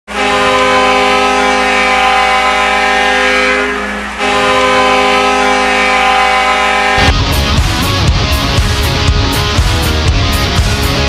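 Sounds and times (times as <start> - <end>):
goal horn blasts: 0.1 - 9.8.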